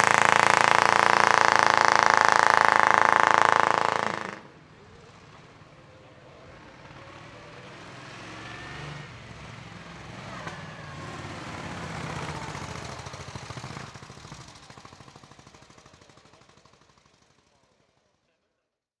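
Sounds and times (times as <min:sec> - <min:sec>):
racing car engine running hard: 0:00.0 - 0:17.4.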